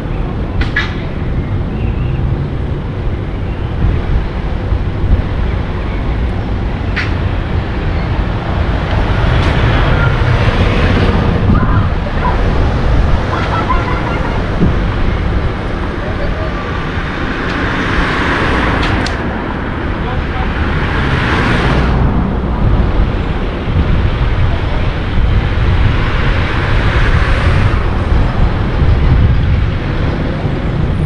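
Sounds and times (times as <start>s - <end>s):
bus passing close: 0.0s - 31.0s
car road and wind noise: 0.0s - 31.0s.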